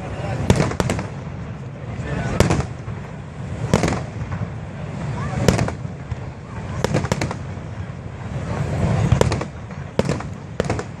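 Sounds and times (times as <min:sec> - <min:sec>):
fireworks cracking: 0:00.0 - 0:11.0
steady low rumble: 0:00.0 - 0:11.0.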